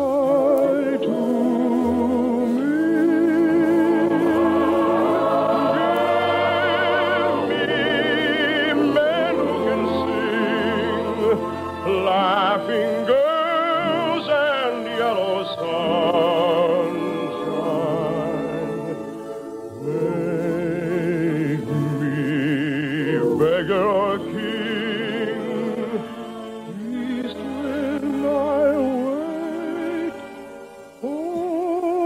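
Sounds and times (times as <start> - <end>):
orchestral accompaniment: 0.0 - 31.3
operatic singing: 0.0 - 32.0.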